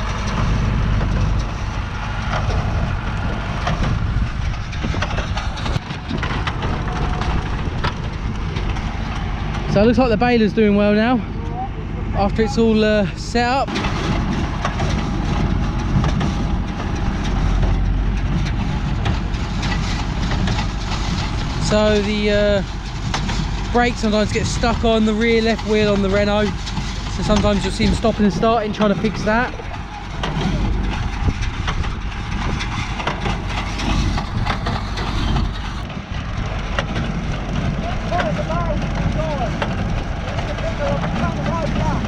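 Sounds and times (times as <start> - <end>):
baler knocking and crunching: 0.0 - 42.0
tractor engine rumbling: 0.0 - 42.0.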